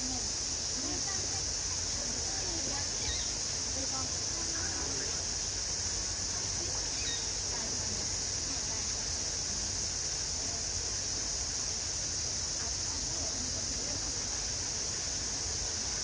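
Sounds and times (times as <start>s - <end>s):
cicadas droning: 0.0s - 16.0s
faint murmuring voices: 0.0s - 16.0s.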